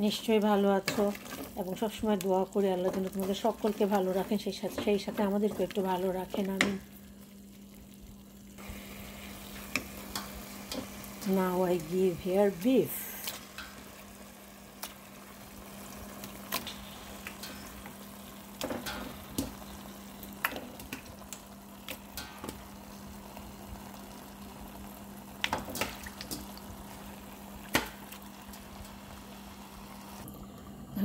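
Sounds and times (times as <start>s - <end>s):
meat sizzling in a pot: 0.0s - 31.0s.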